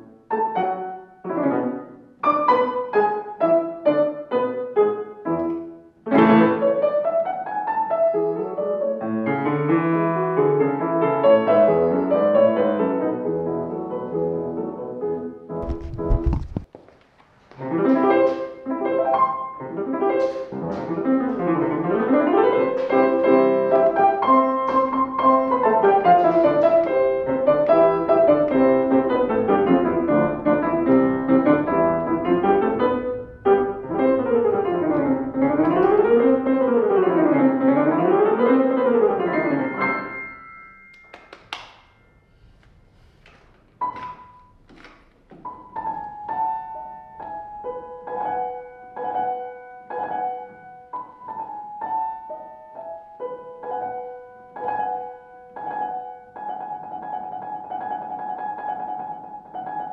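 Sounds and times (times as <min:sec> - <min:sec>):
grand piano playing: 0:00.0 - 0:16.0, 0:17.6 - 0:59.9.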